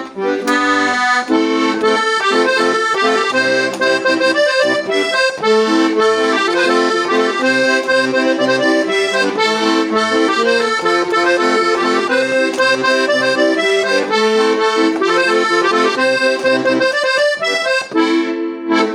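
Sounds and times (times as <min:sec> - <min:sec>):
accordion melody with chords: 0:00.0 - 0:18.9.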